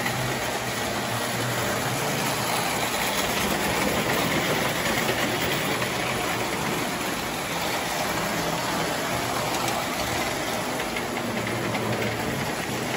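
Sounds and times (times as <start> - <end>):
toy train rumbling on track: 0.0 - 12.9.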